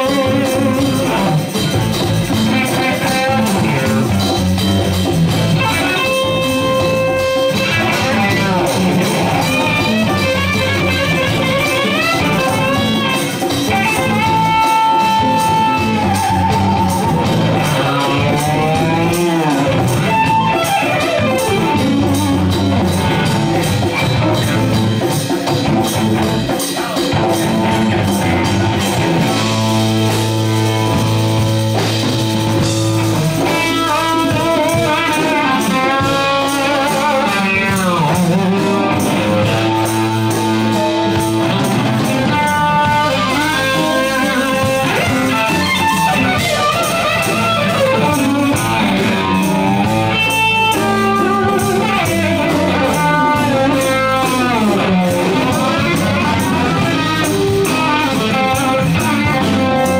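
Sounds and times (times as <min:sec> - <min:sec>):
drums and bass: 0:00.0 - 0:59.9
electric guitar lead: 0:00.0 - 0:59.9.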